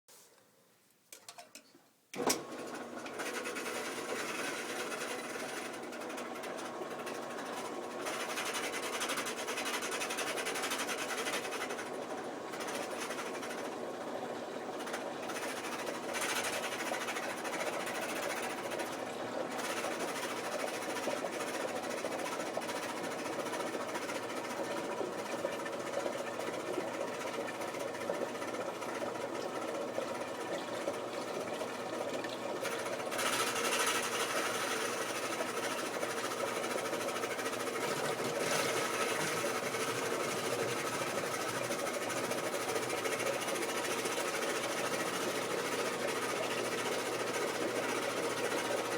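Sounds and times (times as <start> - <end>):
washing machine mechanical noise: 1.1 - 48.9.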